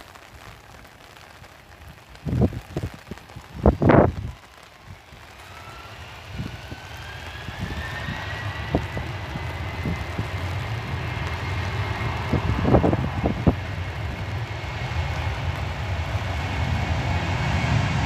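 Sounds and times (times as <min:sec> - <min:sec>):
low engine rumble: 0:00.0 - 0:18.0
wind buffeting microphone: 0:02.0 - 0:18.0
jet engines whining: 0:03.4 - 0:18.0.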